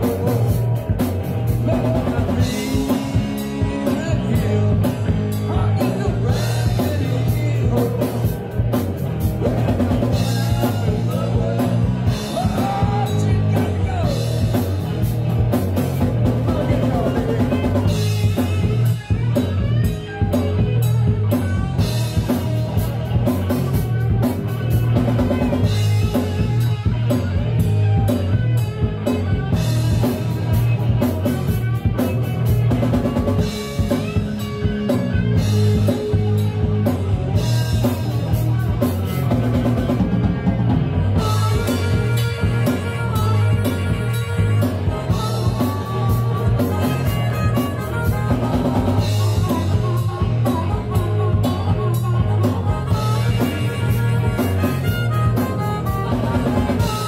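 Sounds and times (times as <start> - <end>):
bass guitar: 0.0 - 57.0
drum kit: 0.0 - 57.0
electric guitars: 0.0 - 57.0
harmonica: 0.0 - 57.0
keyboard: 0.0 - 57.0.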